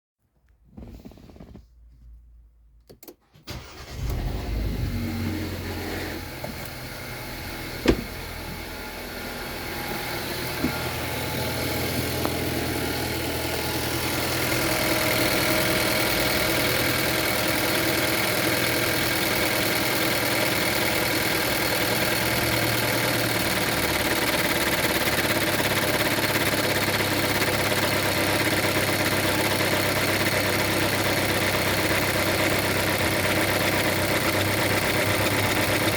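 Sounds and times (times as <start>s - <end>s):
car engine starting and idling: 2.8s - 35.9s.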